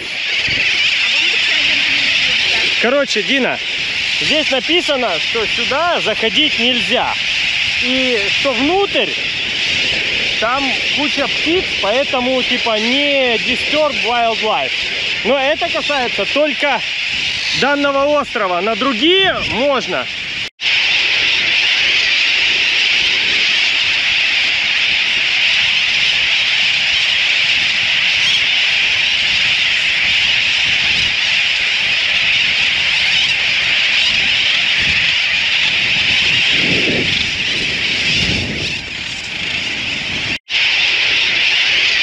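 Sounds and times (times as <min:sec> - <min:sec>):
seabird colony calling: 0:00.0 - 0:42.0.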